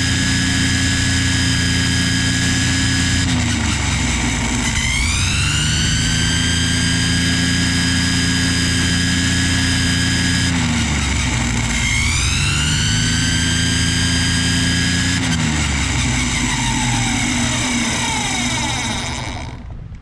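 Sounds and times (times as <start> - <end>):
string trimmer whining: 0.0 - 20.0.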